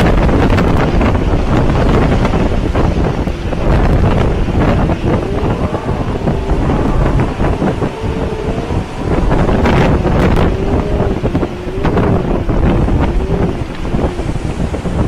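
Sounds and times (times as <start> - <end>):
gust hits and rattles: 0.0 - 15.0
hurricane wind gusting: 0.0 - 15.0.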